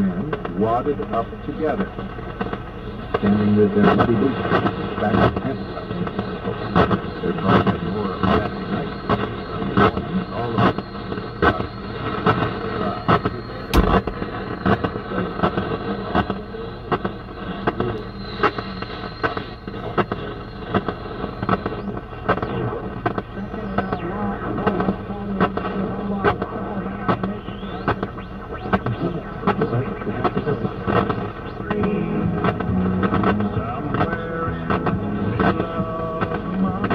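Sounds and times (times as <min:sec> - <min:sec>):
radio static hiss and pops: 0:00.0 - 0:36.9.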